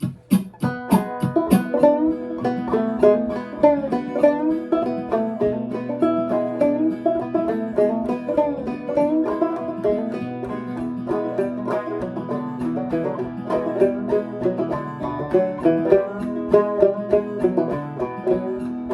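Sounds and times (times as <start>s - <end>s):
banjo playing: 0.0s - 18.9s.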